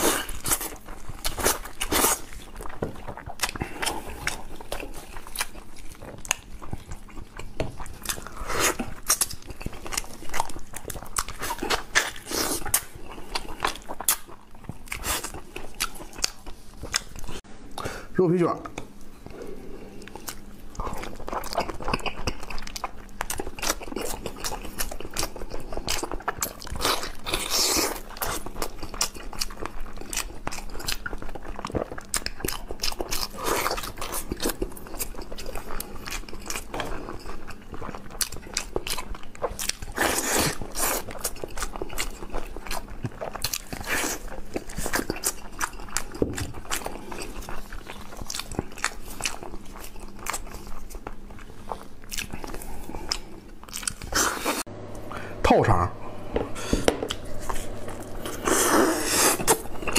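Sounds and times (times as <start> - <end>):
wet chewing mouth sounds: 0.0 - 17.4, 18.7 - 54.7, 56.7 - 59.9.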